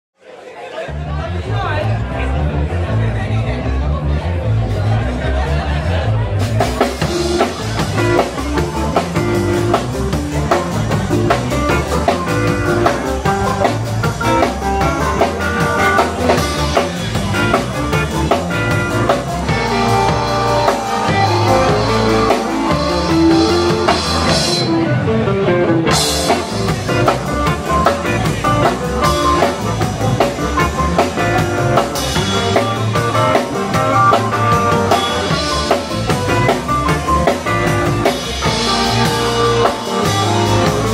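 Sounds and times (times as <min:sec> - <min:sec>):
bass guitar: 0:00.9 - 0:40.9
drum kit: 0:04.6 - 0:40.9
electric guitar: 0:06.4 - 0:40.9.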